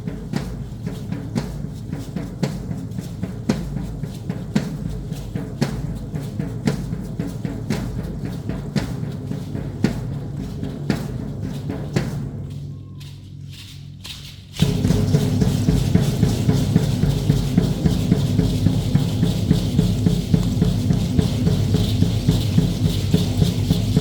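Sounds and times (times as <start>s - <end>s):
drum beaten in steady rhythm: 0.0s - 24.0s.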